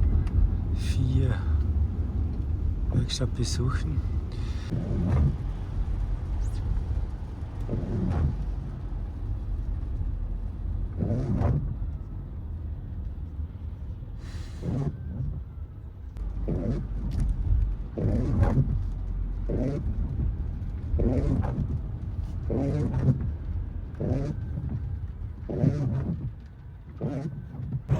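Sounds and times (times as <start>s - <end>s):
car driving rumble: 0.0s - 27.9s
windscreen wipers squeaking: 0.0s - 27.9s.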